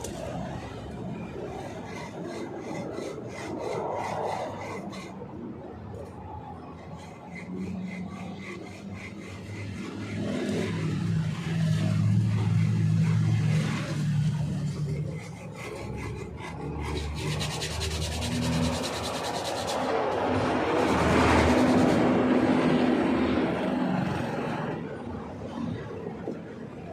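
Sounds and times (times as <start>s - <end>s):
rasping rubbing strokes: 0.0s - 22.8s.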